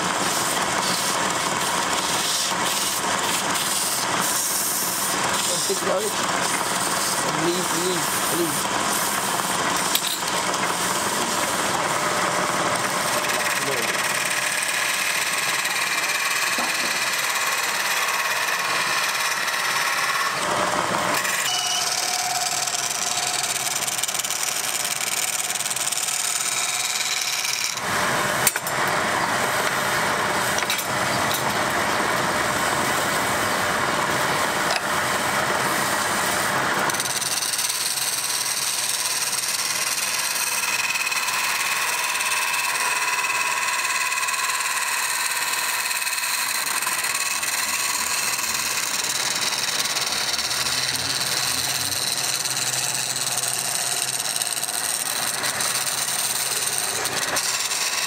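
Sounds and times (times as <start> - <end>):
wood lathe tool cutting: 0.0 - 58.0.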